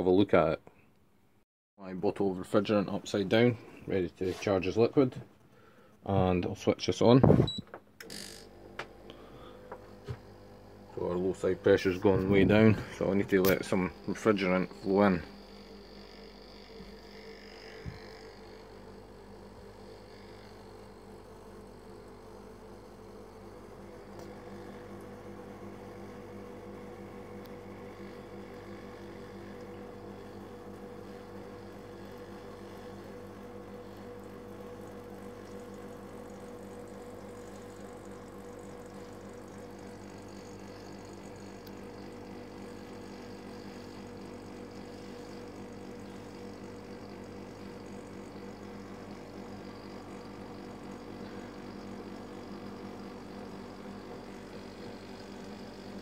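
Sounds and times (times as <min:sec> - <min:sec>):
compressor humming: 0:01.8 - 0:56.0.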